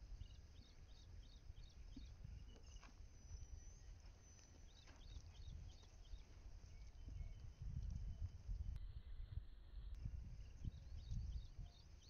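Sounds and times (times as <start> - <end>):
small birds chirping: 0.0 - 8.8, 9.8 - 12.0
wind rumble on microphone: 0.0 - 12.0.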